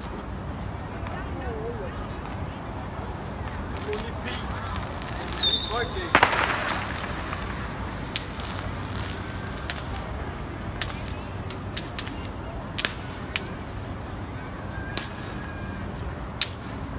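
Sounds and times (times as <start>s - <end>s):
firecrackers cracking: 0.0s - 14.1s, 14.8s - 16.9s.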